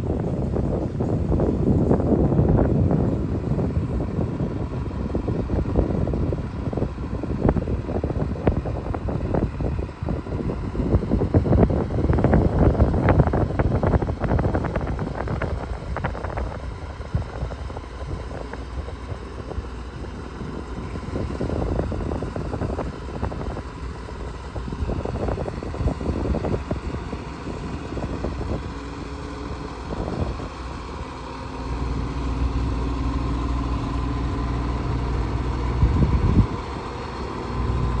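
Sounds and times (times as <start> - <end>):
fire truck diesel engine: 0.0 - 38.0
wind buffeting microphone: 0.0 - 38.0.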